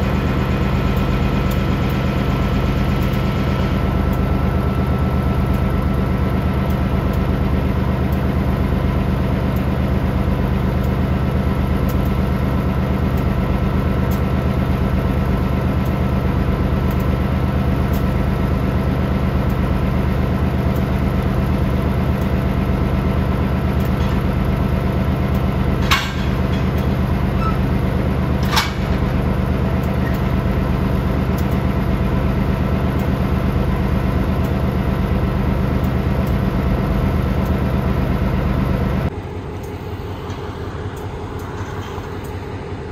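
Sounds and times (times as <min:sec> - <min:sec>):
diesel locomotive engine idling: 0:00.0 - 0:42.9.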